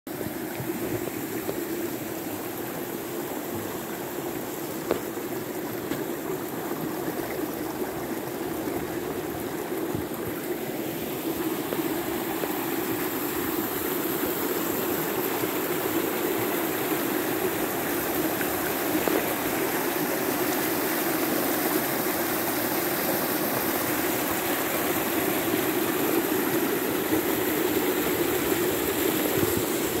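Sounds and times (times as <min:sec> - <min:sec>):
stream rushing over rocks: 0:00.1 - 0:30.0.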